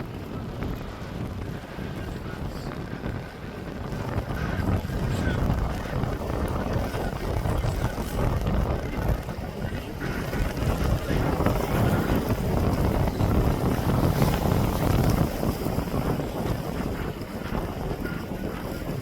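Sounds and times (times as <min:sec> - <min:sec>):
faint sea wash: 0:00.0 - 0:19.0
wind on microphone: 0:00.0 - 0:19.0.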